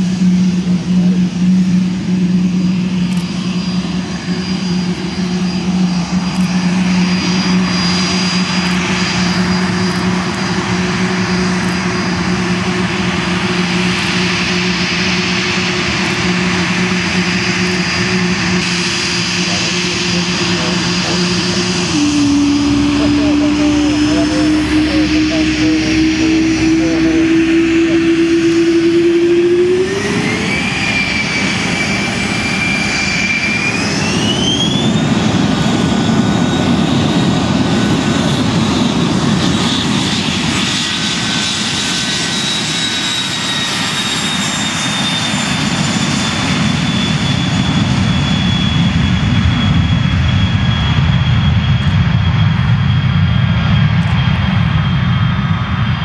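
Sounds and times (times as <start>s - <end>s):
jet engines spooling up and roaring: 0.0s - 56.0s.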